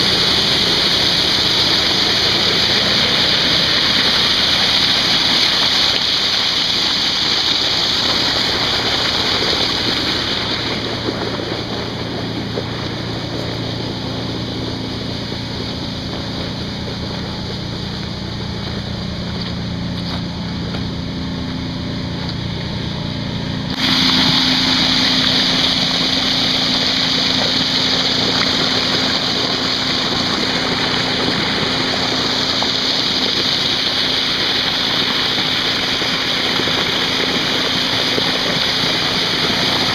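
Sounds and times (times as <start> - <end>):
low machine drone: 0.0 - 39.9
water gushing onto a tarp: 0.0 - 39.9.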